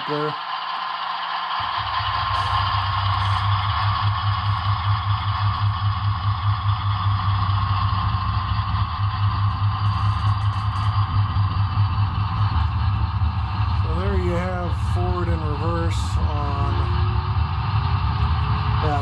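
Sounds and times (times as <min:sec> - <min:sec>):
model diesel engine sound: 0:00.0 - 0:19.0.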